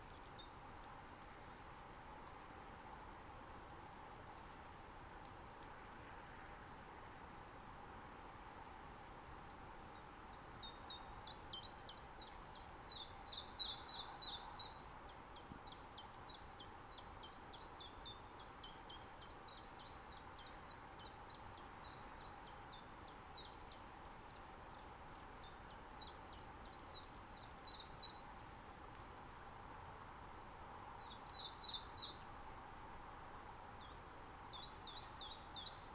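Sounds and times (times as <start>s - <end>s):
faint steady hiss: 0.0s - 35.9s.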